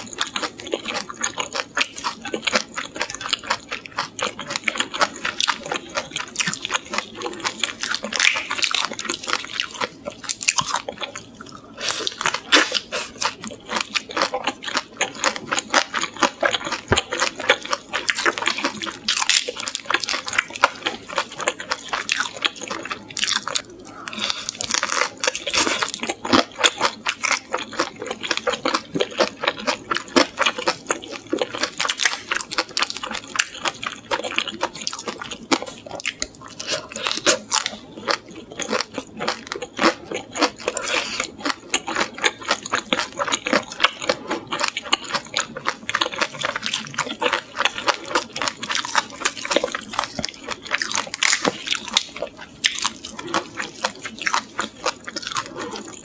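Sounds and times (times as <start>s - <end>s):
chewing and crunching shrimp shells: 0.0s - 56.0s.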